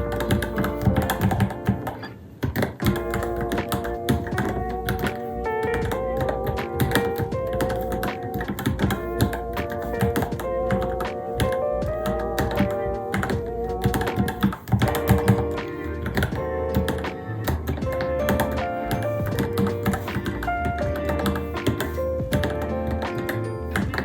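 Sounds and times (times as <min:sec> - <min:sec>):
background music with held tones: 0:00.0 - 0:24.0
rapid keyboard typing: 0:00.0 - 0:24.0.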